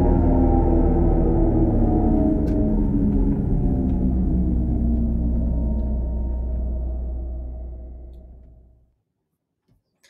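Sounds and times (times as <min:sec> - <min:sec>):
synthesized electric vehicle drone: 0:00.0 - 0:08.9.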